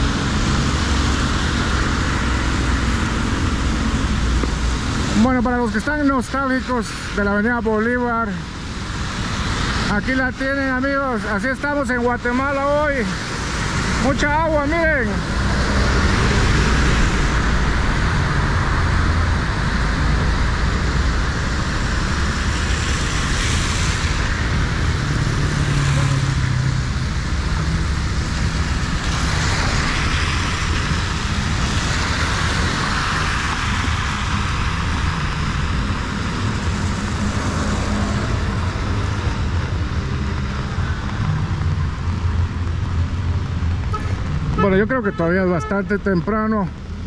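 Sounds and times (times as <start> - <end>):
low traffic rumble: 0.0 - 47.0
heavy rain hiss: 0.1 - 47.0.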